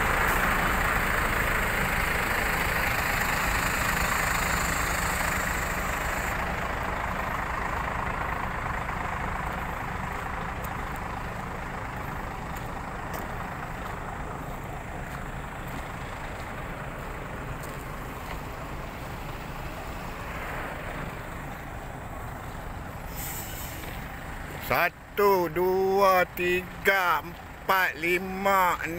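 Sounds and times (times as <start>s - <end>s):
truck diesel engine rumbling: 0.0s - 28.9s.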